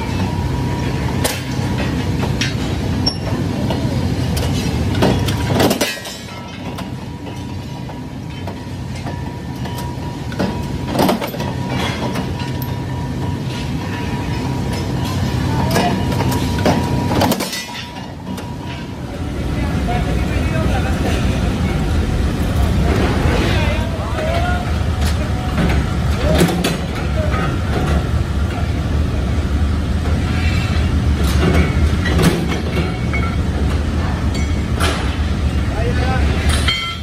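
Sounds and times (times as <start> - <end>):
power press humming and whining: 0.0 - 37.0.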